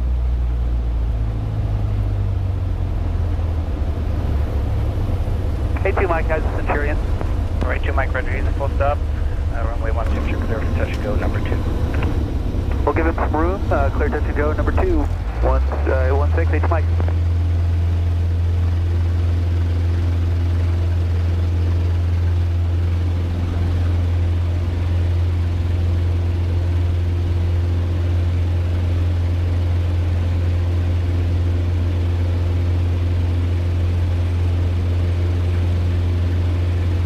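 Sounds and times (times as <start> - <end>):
airplane engine droning in cockpit: 0.0 - 37.0.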